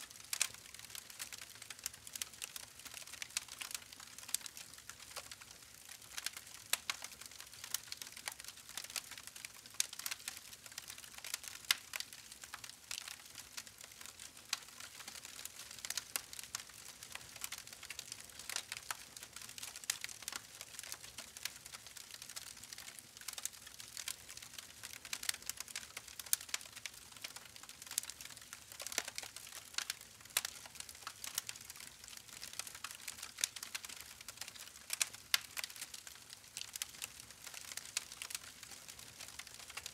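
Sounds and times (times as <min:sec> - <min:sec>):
faint steady hiss: 0:00.0 - 0:39.9
campfire crackling and popping: 0:00.1 - 0:39.9.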